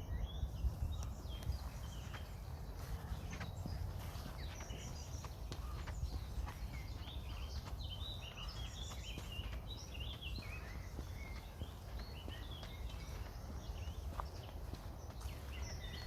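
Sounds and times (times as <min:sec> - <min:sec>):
footsteps on woodland path: 0:00.0 - 0:16.0
songbirds chirping: 0:00.0 - 0:16.0
wind on microphone: 0:00.0 - 0:16.0.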